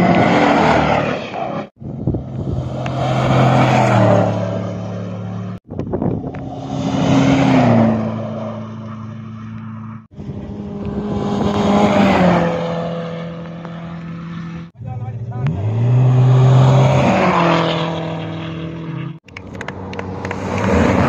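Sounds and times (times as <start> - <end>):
vehicles passing at speed: 0.0 - 21.0.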